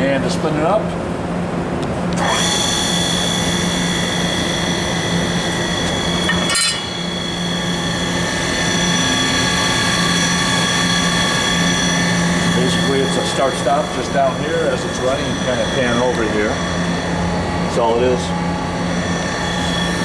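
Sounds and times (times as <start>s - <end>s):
grinder motor high-pitched whine: 2.2s - 20.0s.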